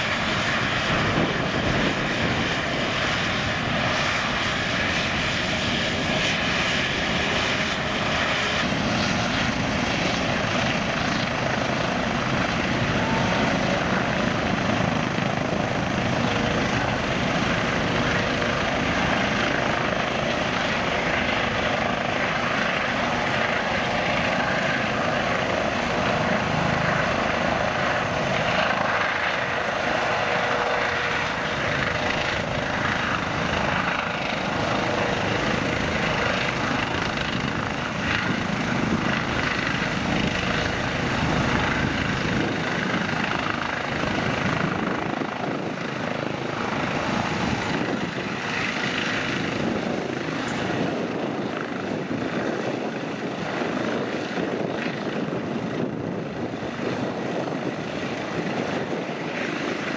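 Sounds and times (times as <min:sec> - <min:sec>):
helicopter rotor noise: 0:00.0 - 0:59.9
turbine engine whine: 0:00.0 - 0:59.9.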